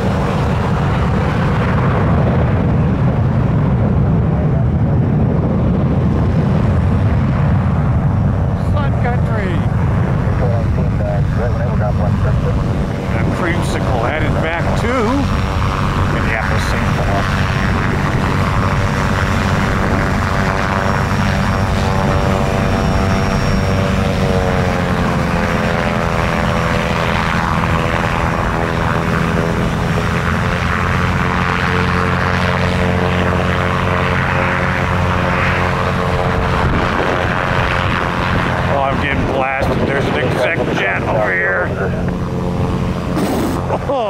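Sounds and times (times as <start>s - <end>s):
jet engines taxiing with whine: 0.0s - 44.0s.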